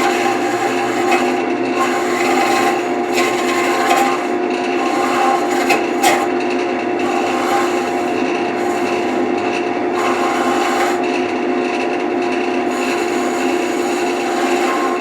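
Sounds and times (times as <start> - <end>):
sandpaper scraping spinning wood: 0.0 - 6.4, 7.0 - 11.3, 12.2 - 15.0
wood lathe motor hum: 0.0 - 15.0.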